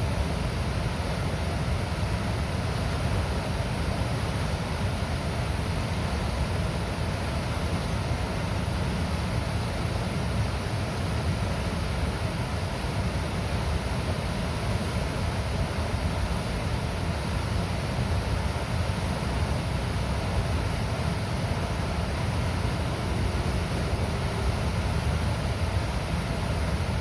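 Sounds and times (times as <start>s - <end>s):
water rushing from dam gates: 0.0s - 27.0s.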